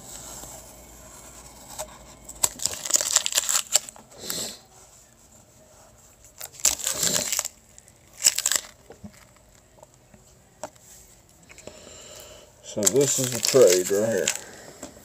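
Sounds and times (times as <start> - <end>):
plastic sleeves rustling and crinkling: 0.0 - 4.0, 4.8 - 11.6, 12.7 - 15.0.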